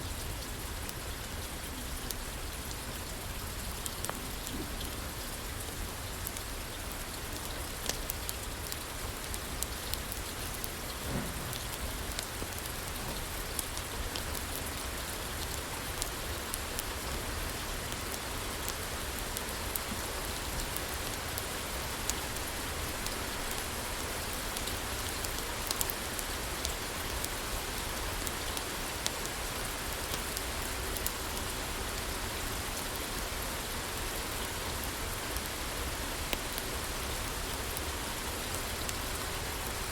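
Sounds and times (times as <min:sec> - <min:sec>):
rain on a roof: 0:00.0 - 0:39.9
wood fire crackling: 0:00.9 - 0:39.9.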